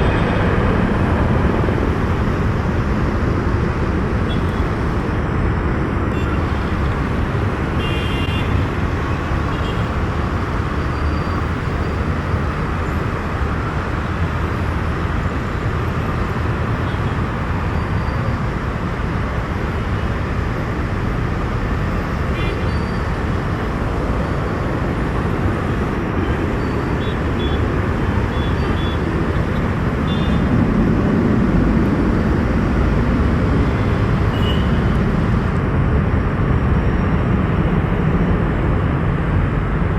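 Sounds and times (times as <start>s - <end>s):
jet engines rushing: 0.0s - 22.3s, 23.0s - 39.9s.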